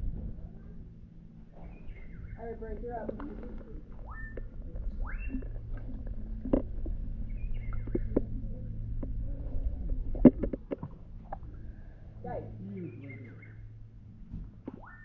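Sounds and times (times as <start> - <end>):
low rumble: 0.0 - 15.0
water sloshing and lapping: 1.4 - 13.6.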